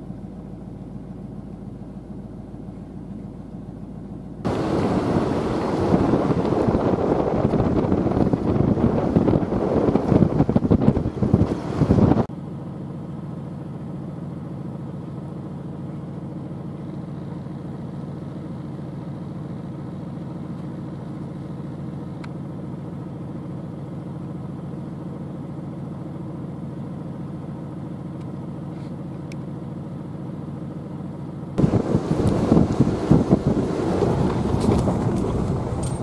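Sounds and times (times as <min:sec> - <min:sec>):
low engine idle: 0:00.0 - 0:10.6, 0:12.3 - 0:36.0
vehicle rumbling on dirt road: 0:00.0 - 0:36.0.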